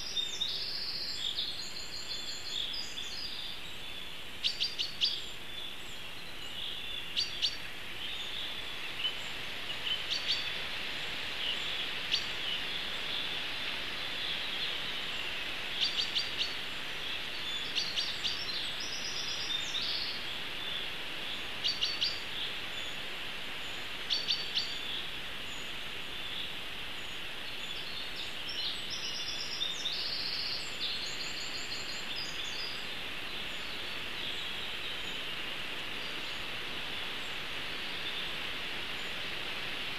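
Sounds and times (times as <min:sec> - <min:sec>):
bird song phrase: 0:00.0 - 0:10.6, 0:14.0 - 0:23.0, 0:23.6 - 0:39.2
songbirds chirping: 0:00.0 - 0:39.9
steady hiss: 0:00.0 - 0:39.9.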